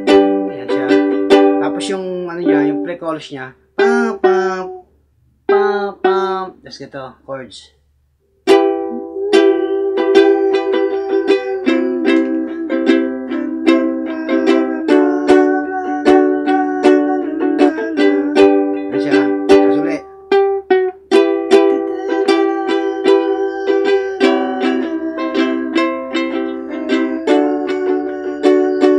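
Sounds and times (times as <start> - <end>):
ukulele strumming: 0.0 - 3.1, 3.8 - 4.9, 5.5 - 6.6, 8.4 - 28.9.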